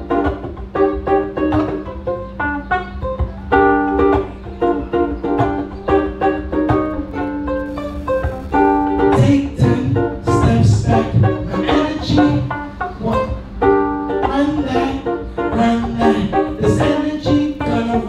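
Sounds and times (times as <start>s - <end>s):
hissy rhythm: 0.0s - 18.0s
ukulele plucked chords: 0.0s - 18.0s.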